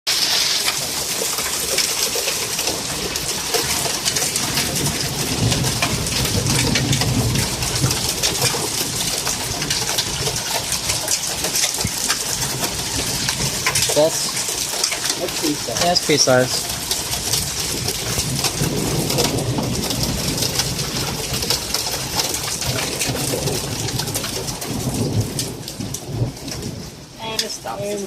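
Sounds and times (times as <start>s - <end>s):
hail and rain hissing: 0.1s - 28.0s
hailstones ticking: 0.1s - 28.0s.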